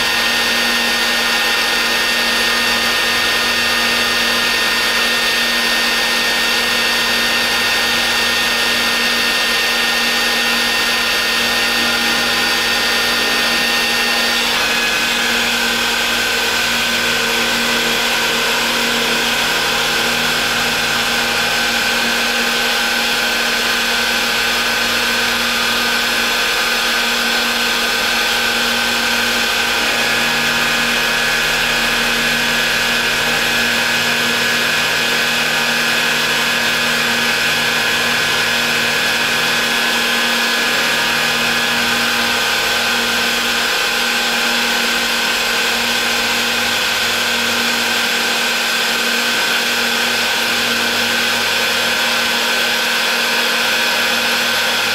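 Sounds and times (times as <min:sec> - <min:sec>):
lathe machine whine: 0:00.0 - 0:54.9.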